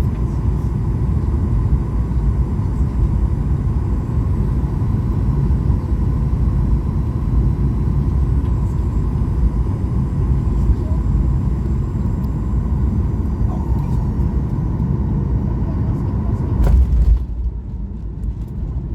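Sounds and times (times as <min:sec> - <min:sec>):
airplane cabin engine rumble: 0:00.0 - 0:18.9
faint steady whine: 0:00.0 - 0:18.9.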